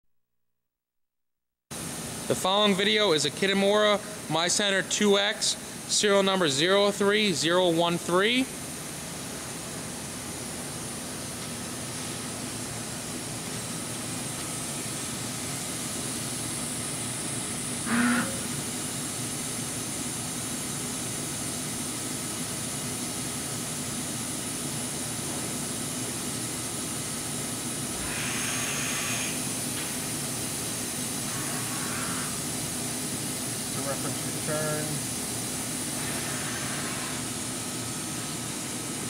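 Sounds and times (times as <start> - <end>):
machine hum and hiss: 1.7 - 39.0.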